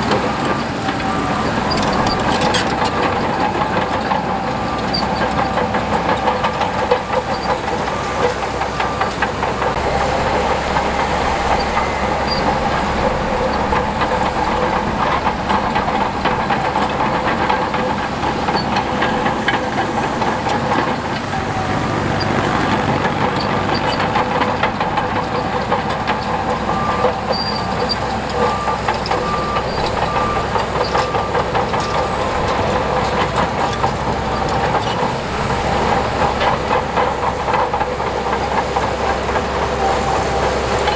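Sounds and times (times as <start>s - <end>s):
crawler tracks clanking: 0.0s - 40.9s
diesel engine under load: 0.0s - 40.9s.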